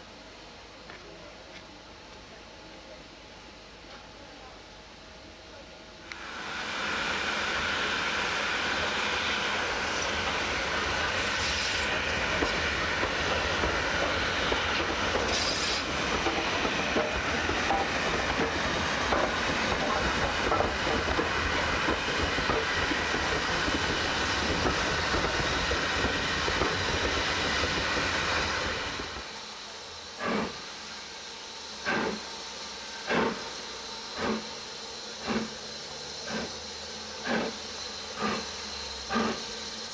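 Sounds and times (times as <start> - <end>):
steam hiss: 6.0 - 39.9
steam locomotive running past: 6.0 - 39.9
sharp locomotive exhaust beats: 6.2 - 39.9.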